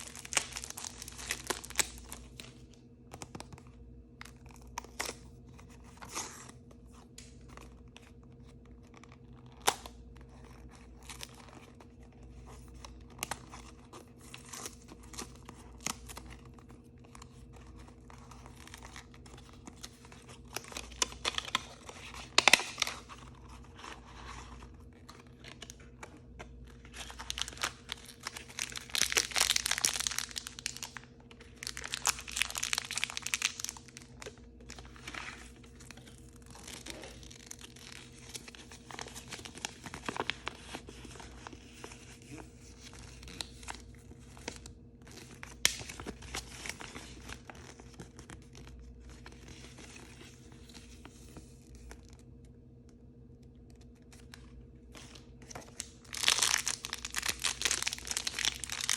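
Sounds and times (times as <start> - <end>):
packaging crinkling and tearing: 0.0 - 58.9.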